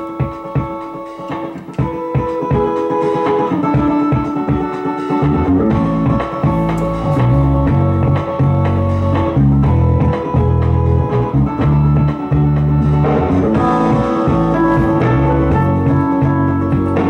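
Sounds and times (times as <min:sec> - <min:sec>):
music with drum beat and bass: 0:00.0 - 0:17.0.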